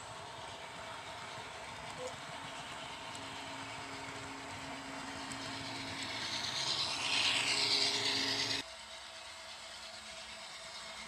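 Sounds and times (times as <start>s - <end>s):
model train motor hum: 0.0s - 11.0s
model train wheels rolling: 0.0s - 11.0s.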